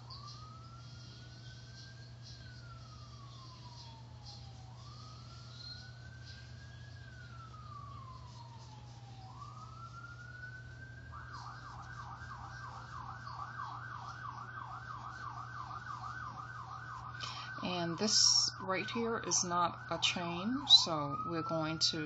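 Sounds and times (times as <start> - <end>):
emergency vehicle siren: 0.0 - 22.0
steady low hum: 0.0 - 22.0.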